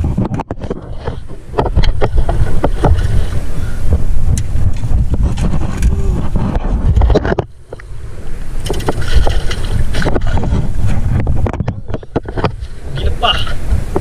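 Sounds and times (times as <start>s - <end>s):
knocks and clicks on hull: 0.0s - 7.9s, 8.6s - 14.0s
wind buffeting microphone: 0.0s - 14.0s.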